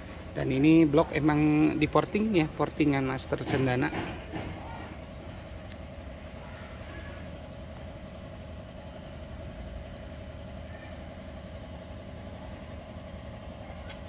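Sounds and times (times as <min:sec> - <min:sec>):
machine rumbling and humming: 0:00.0 - 0:14.0.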